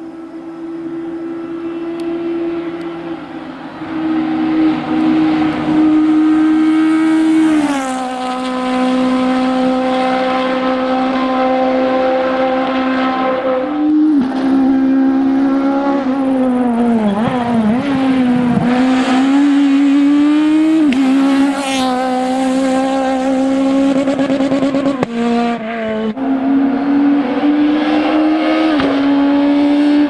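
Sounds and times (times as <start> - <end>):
rally car engine at high revs: 0.0 - 30.0.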